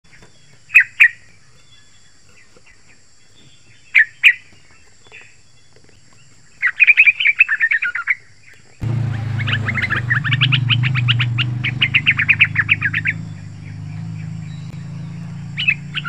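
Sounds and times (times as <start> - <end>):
bulbul calling: 0.1 - 16.0.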